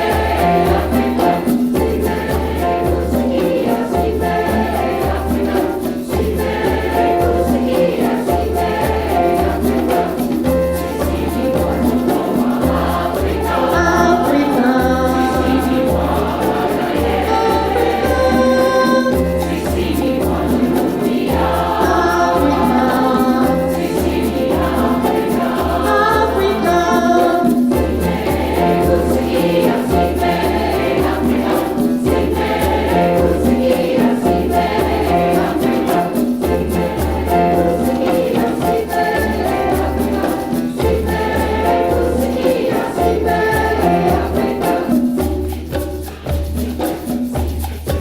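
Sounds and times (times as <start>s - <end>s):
choir singing in harmony: 0.0s - 48.0s.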